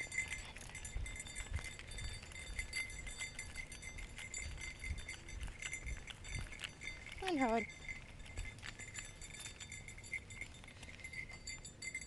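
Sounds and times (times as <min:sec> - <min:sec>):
faint ticks and low thumps: 0:00.0 - 0:12.0.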